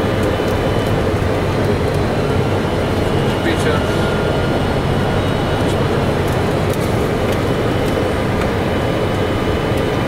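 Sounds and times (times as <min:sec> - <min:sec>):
cockpit airflow and engine rush: 0:00.0 - 0:10.0.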